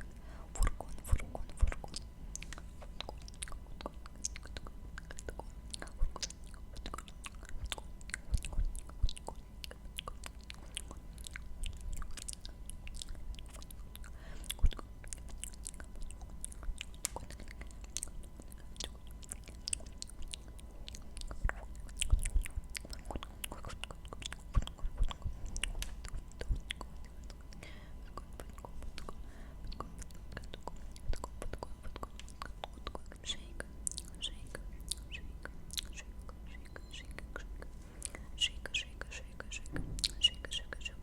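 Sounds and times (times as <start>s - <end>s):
wet mouth clicks and smacks: 0.6s - 41.0s.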